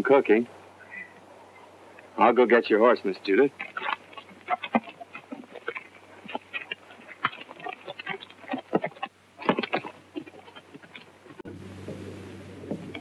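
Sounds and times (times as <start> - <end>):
film soundtrack hum: 0.0 - 13.0
horse hooves on leafy ground: 2.2 - 13.0.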